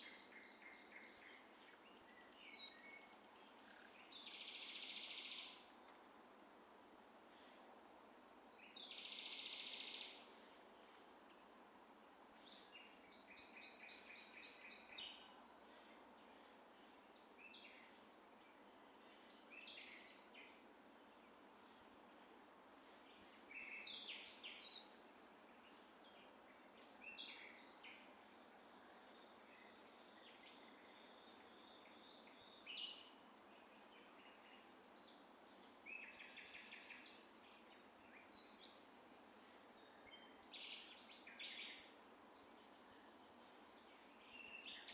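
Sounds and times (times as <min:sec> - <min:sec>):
outdoor background hiss: 0:00.0 - 0:44.9
songbirds singing: 0:00.0 - 0:44.9.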